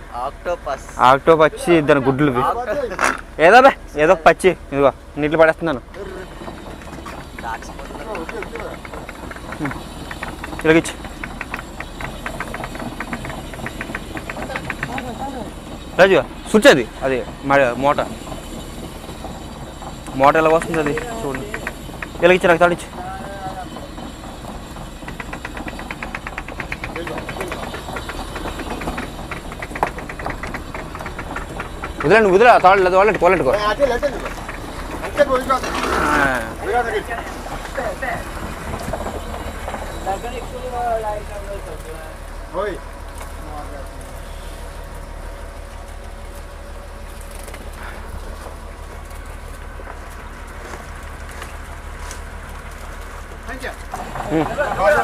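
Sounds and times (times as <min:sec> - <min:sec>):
boat engine low rumble: 0:00.0 - 0:55.0
winch rapid clicking: 0:00.0 - 0:55.0.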